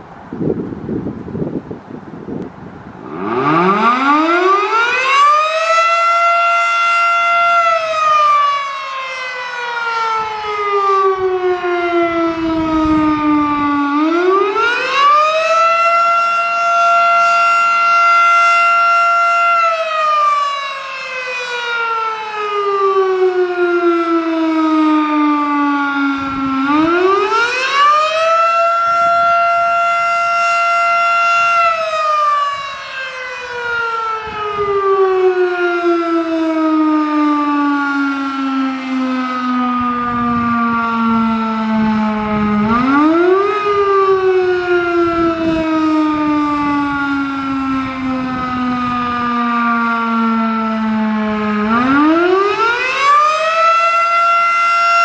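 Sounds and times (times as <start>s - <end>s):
warning siren wailing: 0.0s - 55.0s.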